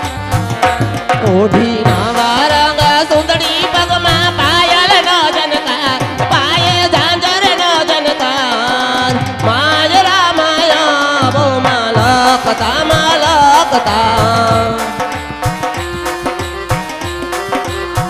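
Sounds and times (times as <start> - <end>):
hand drum beat: 0.0 - 18.0
ornamented folk melody: 0.0 - 18.0.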